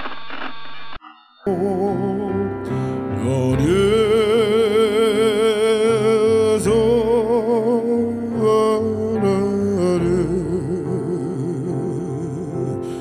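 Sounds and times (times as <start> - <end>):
man singing: 1.4 - 13.0
piano accompaniment: 1.5 - 13.0.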